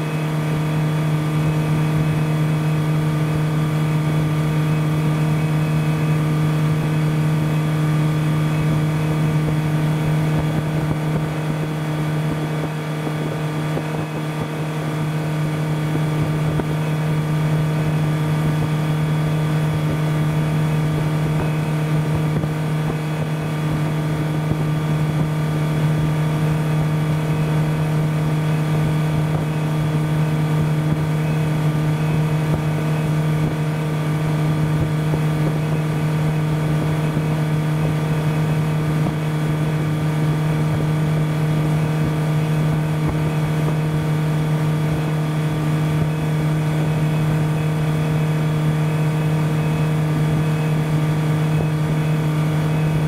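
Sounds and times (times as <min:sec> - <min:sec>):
motorboat engine droning: 0:00.0 - 0:53.0.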